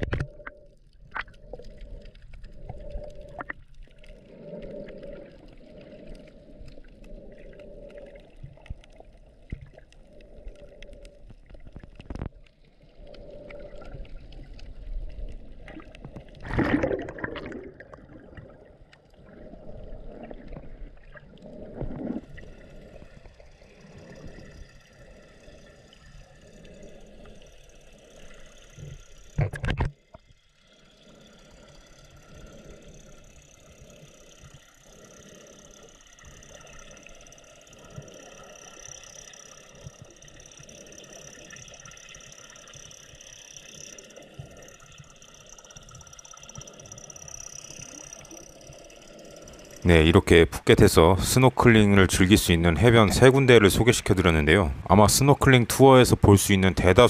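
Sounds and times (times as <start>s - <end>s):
muffled underwater churning: 0.0s - 57.0s.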